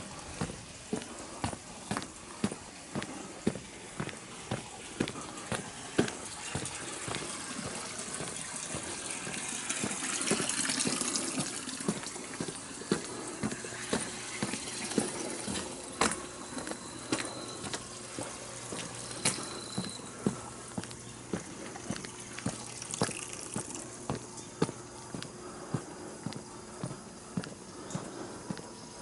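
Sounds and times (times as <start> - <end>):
running water rushing: 0.0 - 24.2
footsteps on asphalt: 0.0 - 29.0.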